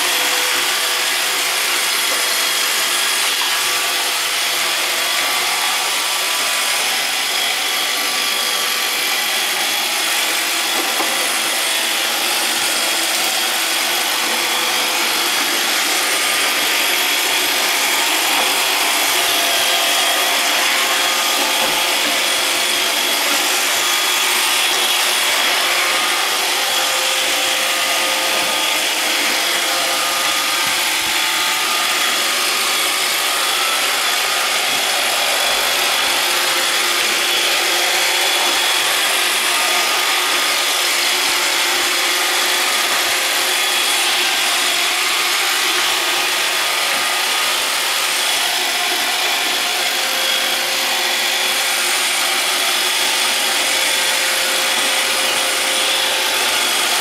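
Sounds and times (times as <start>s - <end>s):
robot vacuum whirring: 0.0s - 57.0s.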